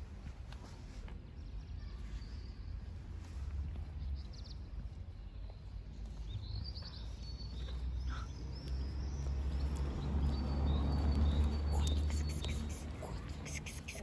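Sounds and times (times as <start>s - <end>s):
small birds chirping: 1.2s - 14.0s.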